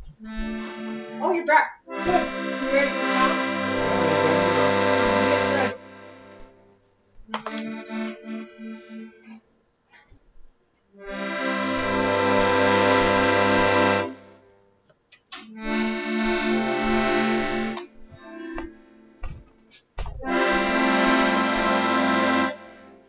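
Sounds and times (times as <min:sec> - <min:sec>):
accordion chords over bass note: 0:00.0 - 0:09.4, 0:11.0 - 0:14.5, 0:15.5 - 0:19.5, 0:20.2 - 0:23.0.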